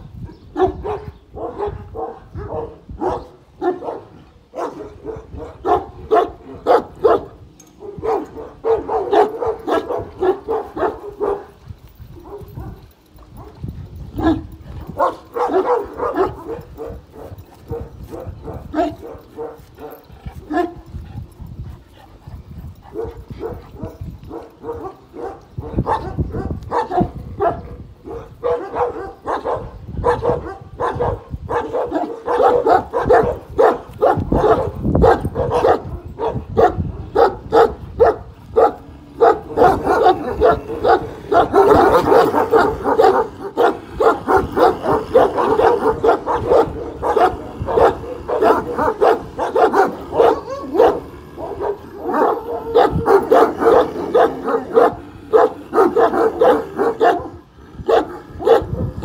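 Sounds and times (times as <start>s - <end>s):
dogs barking: 0.5s - 21.6s, 22.6s - 59.0s.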